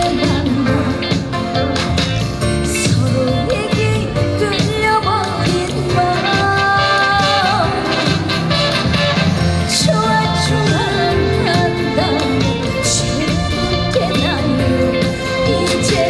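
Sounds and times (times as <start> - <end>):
live band music: 0.0 - 16.0.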